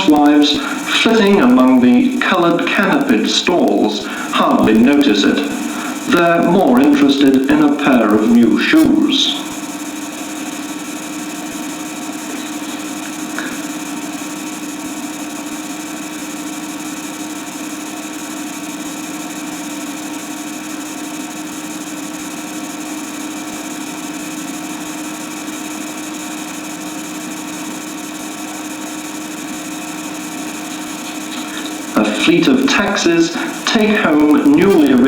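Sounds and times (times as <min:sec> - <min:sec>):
machine hum with hiss: 0:00.0 - 0:35.0.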